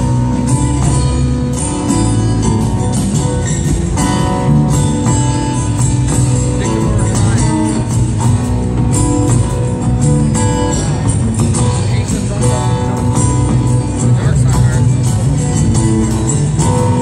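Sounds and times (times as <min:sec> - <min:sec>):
acoustic guitar: 0:00.0 - 0:17.0
drums: 0:00.0 - 0:17.0
upright bass: 0:00.0 - 0:17.0.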